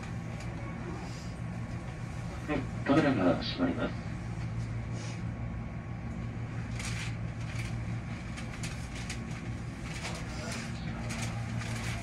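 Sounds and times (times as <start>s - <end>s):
electric train hum and rumble: 0.0s - 12.0s.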